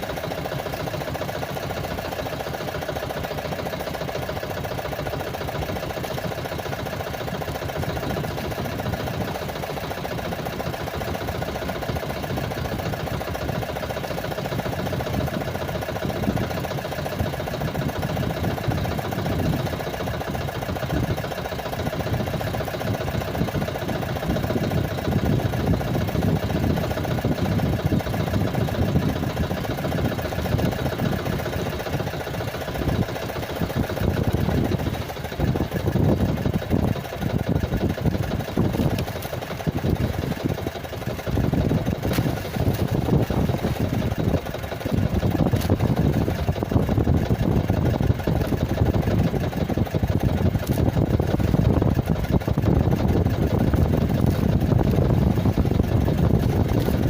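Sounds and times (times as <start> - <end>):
small engine idling: 0.0 - 57.0.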